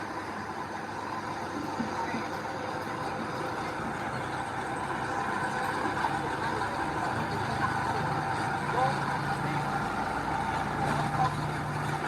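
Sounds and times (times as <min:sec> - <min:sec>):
heavy machinery diesel engine running: 0:00.0 - 0:12.0.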